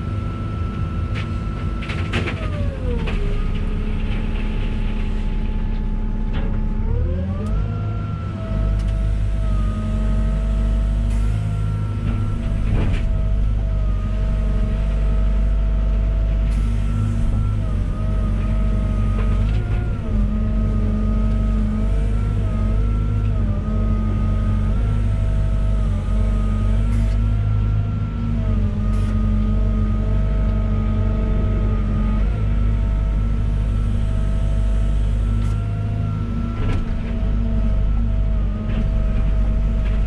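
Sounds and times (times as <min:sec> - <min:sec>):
diesel engine droning: 0:00.0 - 0:40.0
high engine whine: 0:00.0 - 0:40.0.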